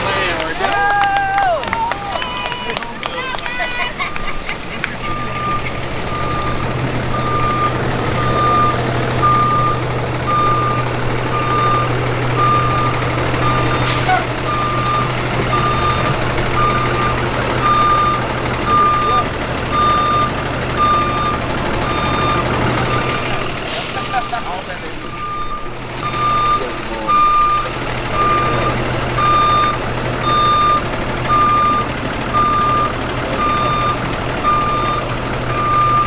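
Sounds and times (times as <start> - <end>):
truck engine running: 0.0 - 36.0
truck reversing alarm beeping: 0.0 - 36.0.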